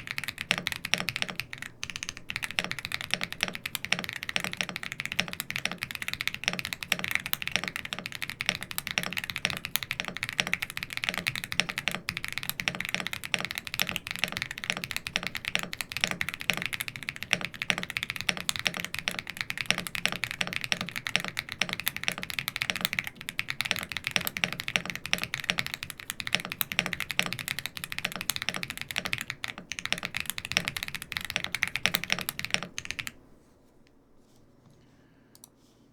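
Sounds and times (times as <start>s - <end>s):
mechanical keyboard typing: 0.0s - 33.2s.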